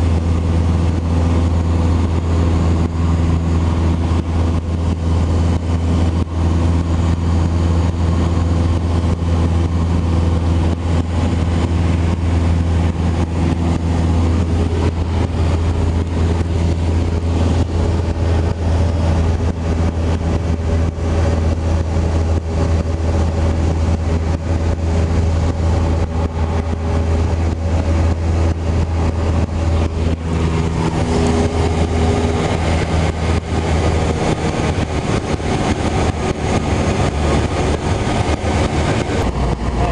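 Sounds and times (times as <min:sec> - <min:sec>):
airplane engine droning in cabin: 0:00.0 - 0:39.9.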